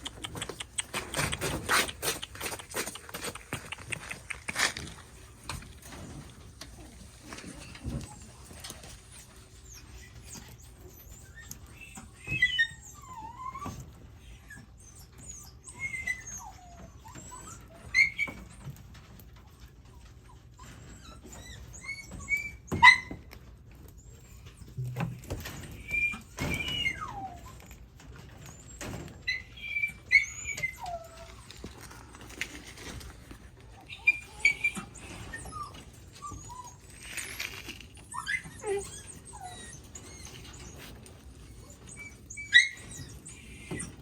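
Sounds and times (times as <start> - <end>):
puppies whimpering and squeaking: 0.0 - 44.0.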